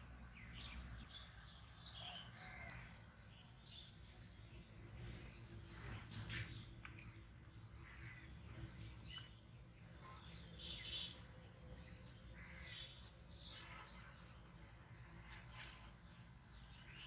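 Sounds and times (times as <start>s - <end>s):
birds chirping: 0.3s - 15.5s.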